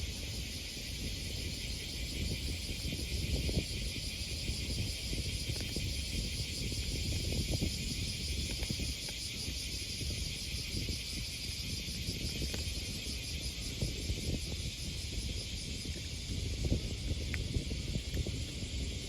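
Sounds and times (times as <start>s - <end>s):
insects chirring: 0.0s - 19.0s
wind on microphone: 0.0s - 19.0s.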